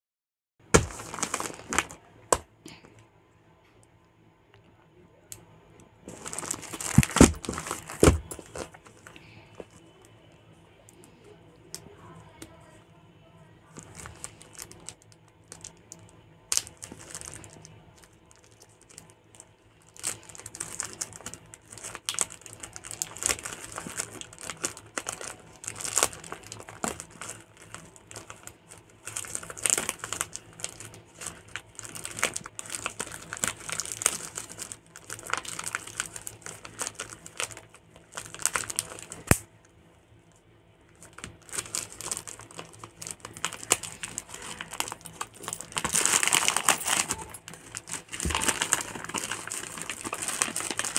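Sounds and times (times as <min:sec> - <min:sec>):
plastic bag crinkling and tearing: 0:00.8 - 0:02.4, 0:06.1 - 0:09.8, 0:13.8 - 0:39.5, 0:40.9 - 0:50.9.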